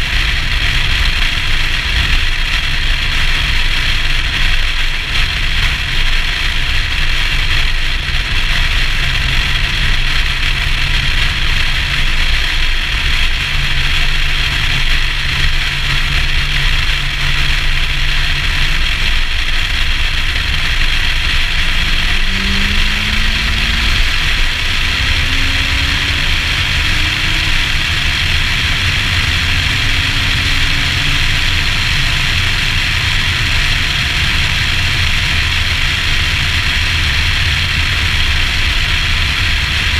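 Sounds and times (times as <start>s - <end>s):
car engine droning: 0.0s - 39.9s
road noise: 0.0s - 39.9s
wind noise: 0.0s - 39.9s.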